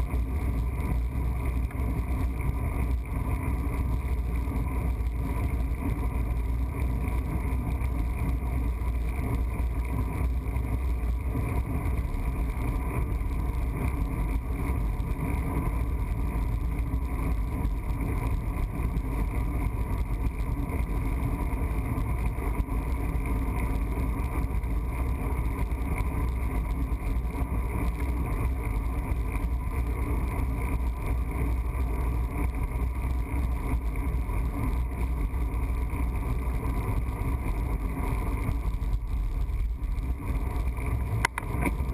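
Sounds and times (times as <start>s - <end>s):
tyre and road noise: 0.0s - 41.9s.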